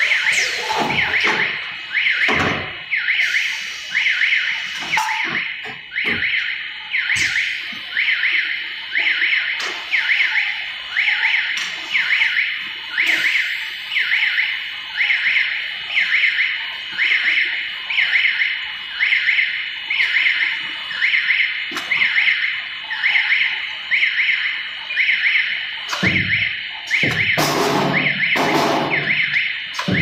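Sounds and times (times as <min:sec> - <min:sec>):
electronic warning alarm: 0:00.0 - 0:30.0.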